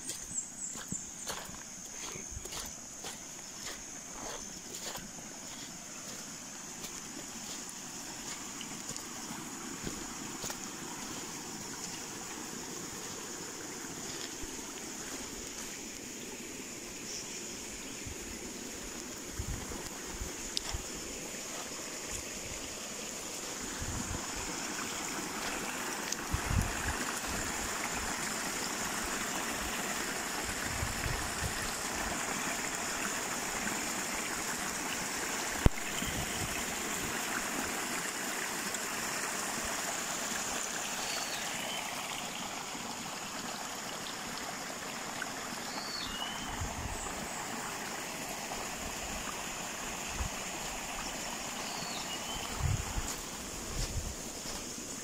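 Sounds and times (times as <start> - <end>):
creek water flowing: 0.0 - 55.0.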